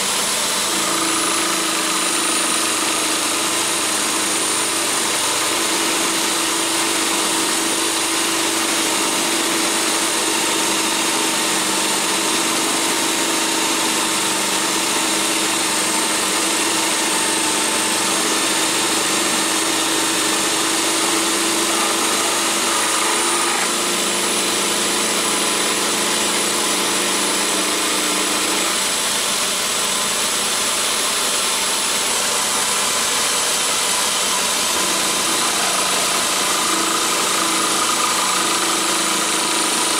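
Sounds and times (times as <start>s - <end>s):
end mill cutting steel: 0.0s - 39.9s
power drill motor whine: 0.0s - 39.9s.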